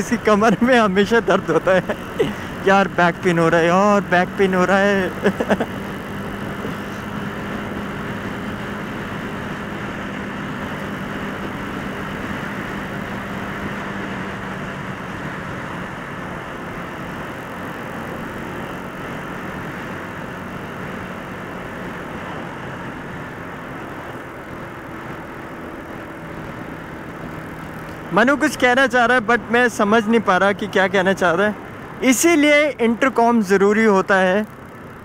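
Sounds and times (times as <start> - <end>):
motorcycle engine cruising: 0.0 - 35.0
road noise: 0.0 - 35.0.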